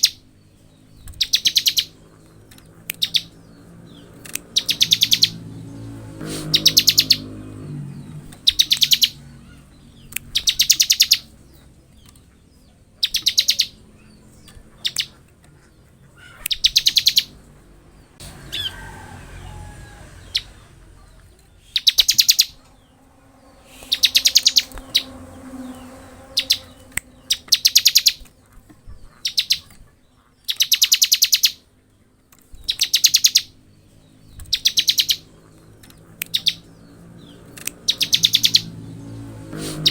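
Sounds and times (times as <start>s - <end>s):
bird singing rapid ticking trills: 0.0s - 18.7s, 20.2s - 31.7s, 32.4s - 39.9s.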